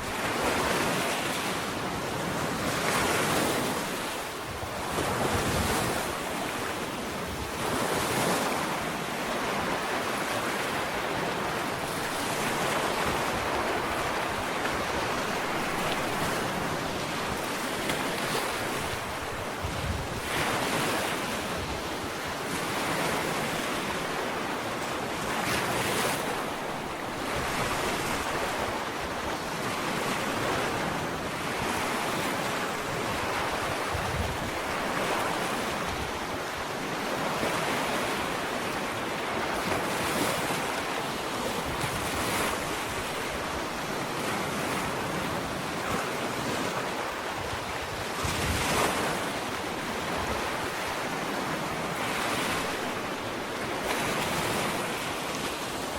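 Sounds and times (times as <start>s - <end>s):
ocean waves breaking on beach: 0.0s - 55.9s.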